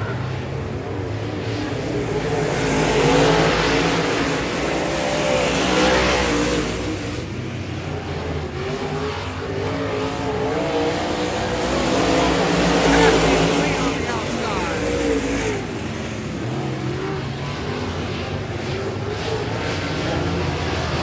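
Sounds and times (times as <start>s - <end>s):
race car engines passing: 0.0s - 21.0s.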